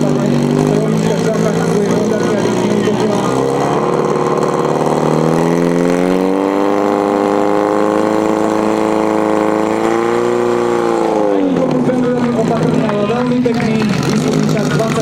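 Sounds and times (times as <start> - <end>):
fire pump engine running hard: 0.0 - 15.0.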